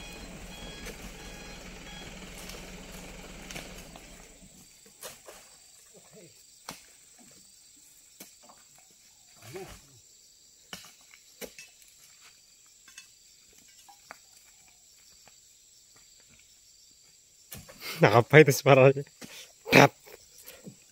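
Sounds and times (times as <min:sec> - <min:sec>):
insects droning: 0:00.0 - 0:20.9.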